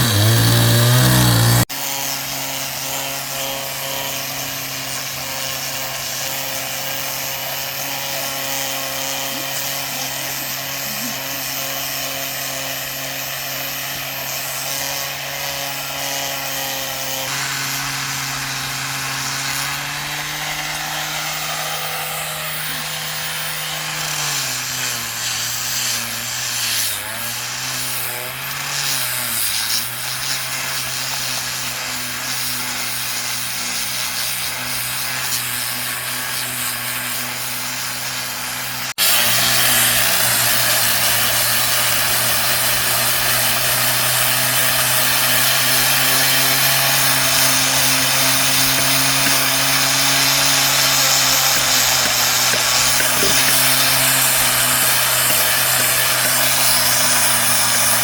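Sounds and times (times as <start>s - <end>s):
electric power tool cutting wood: 0.0s - 58.0s.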